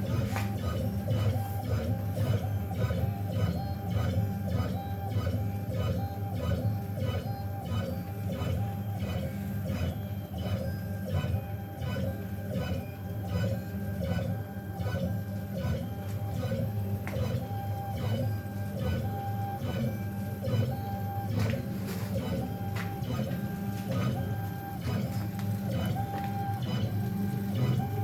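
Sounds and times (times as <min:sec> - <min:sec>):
stepper motors whining: 0:00.0 - 0:28.0.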